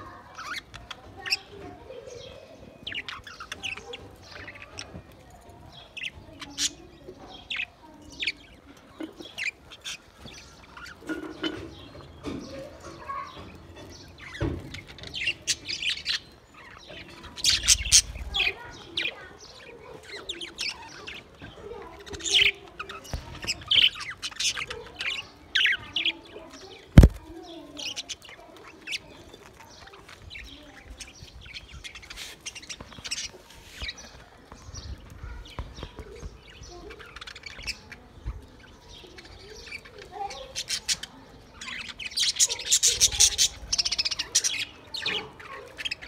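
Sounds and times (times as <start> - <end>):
budgerigars chirping and chattering: 0.0 - 46.0.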